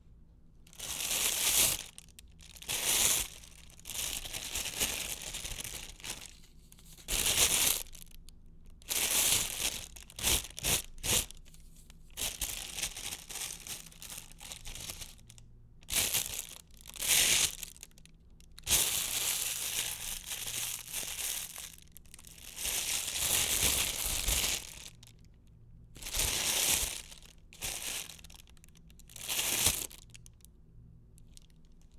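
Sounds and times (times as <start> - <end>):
plastic wrapper crinkling: 0.7 - 25.4, 26.0 - 30.4.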